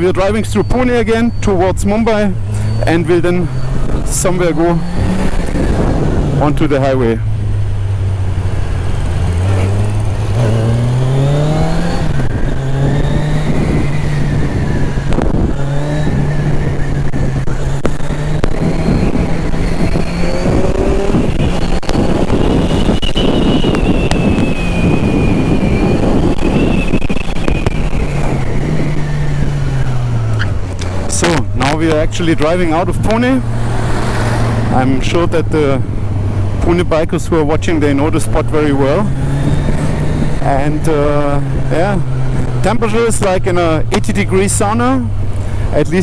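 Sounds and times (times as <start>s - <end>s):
motorcycle engine: 0.0s - 45.8s
wind rush: 1.8s - 46.0s.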